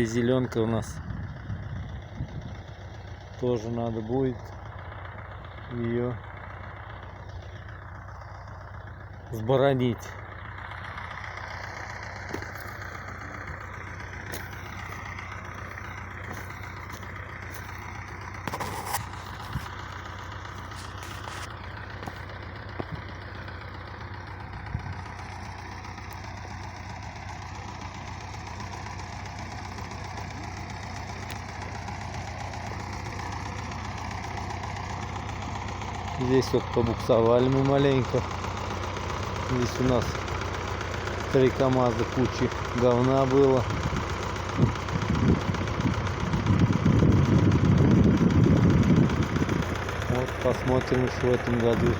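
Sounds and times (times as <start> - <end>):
tractor engine droning: 0.0 - 51.9.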